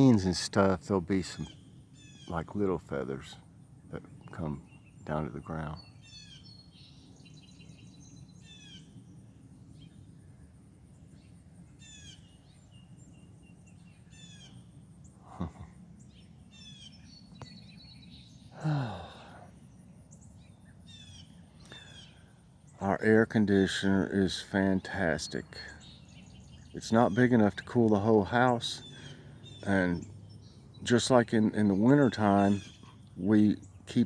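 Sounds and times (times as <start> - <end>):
songbirds singing: 0.0 - 34.0
steady low hum: 0.0 - 34.0.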